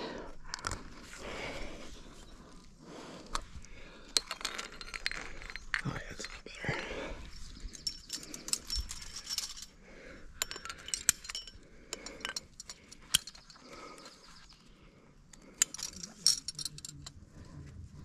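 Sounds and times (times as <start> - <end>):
metal climbing gear clinking: 0.2 - 14.6, 15.3 - 17.4.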